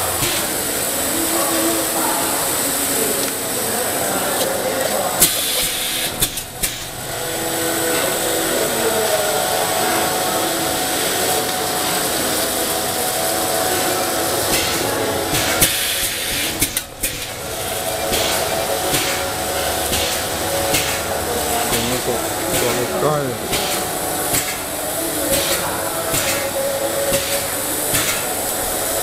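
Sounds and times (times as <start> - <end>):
cup crimping machine running: 0.0 - 29.0
faint high whine: 0.0 - 29.0.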